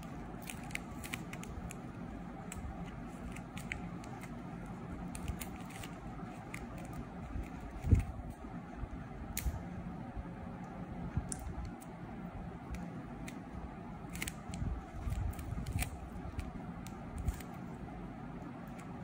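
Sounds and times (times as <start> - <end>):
tape crinkling and clicking: 0.0 - 8.4, 10.6 - 12.0, 12.6 - 19.0.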